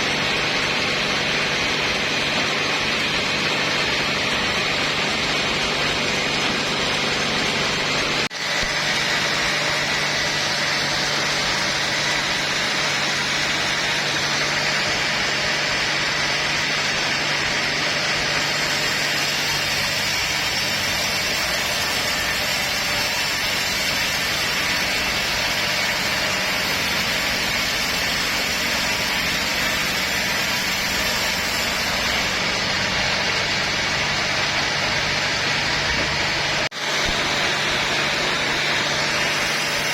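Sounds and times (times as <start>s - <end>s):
saw cutting logs: 0.0s - 39.9s.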